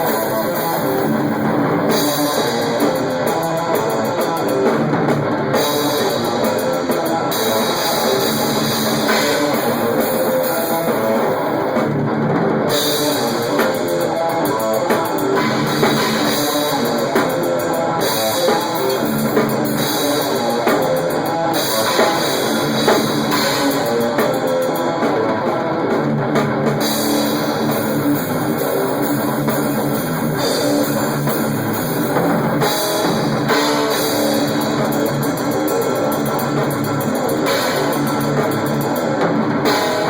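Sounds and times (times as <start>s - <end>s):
drum kit playing: 0.0s - 40.0s
electric guitar: 0.0s - 40.0s.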